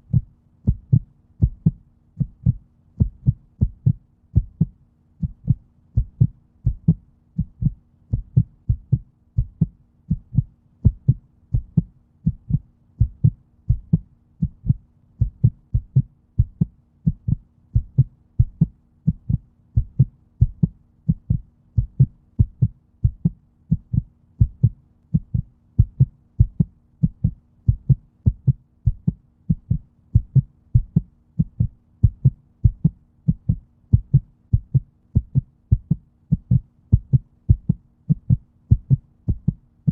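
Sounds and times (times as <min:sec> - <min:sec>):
faint steady hum: 0:00.0 - 0:39.9
heartbeat thumps: 0:00.0 - 0:39.9.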